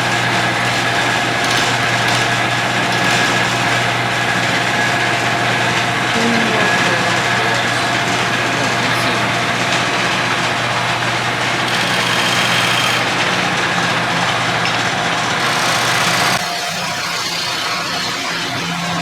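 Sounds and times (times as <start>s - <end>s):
turning tool scraping wood: 0.0s - 16.4s
lathe motor humming: 0.0s - 16.6s.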